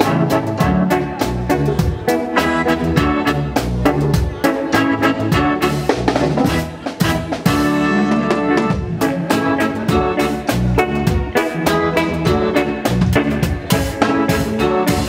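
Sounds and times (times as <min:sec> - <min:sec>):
drum kit: 0:00.0 - 0:15.0
electric guitar: 0:00.0 - 0:15.0
keyboard playing: 0:00.0 - 0:15.0.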